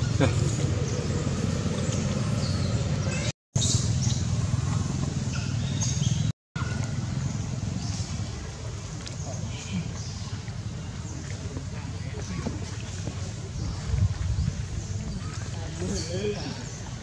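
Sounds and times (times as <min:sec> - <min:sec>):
engine humming: 0:00.0 - 0:15.8.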